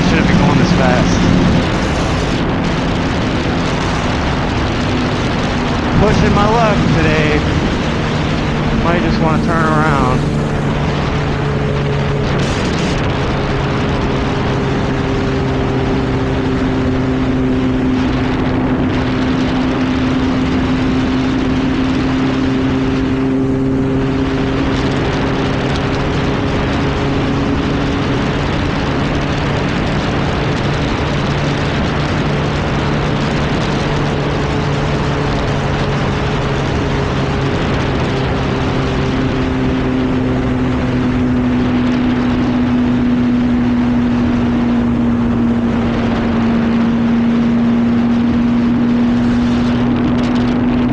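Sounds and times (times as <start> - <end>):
motorcycle engine cruising: 0.0 - 50.9
wind rushing on microphone: 0.0 - 50.9.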